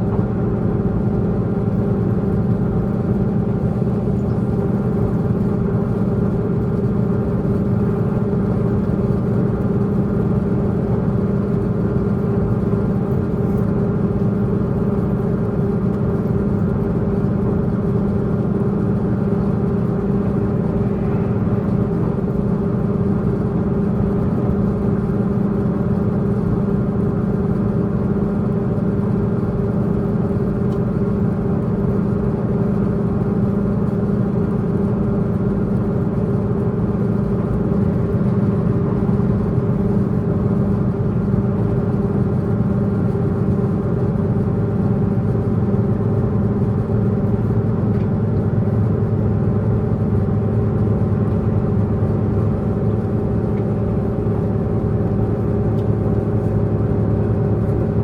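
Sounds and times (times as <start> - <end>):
diesel train engine running: 0.0 - 58.0
wheels rumbling on track: 0.0 - 58.0.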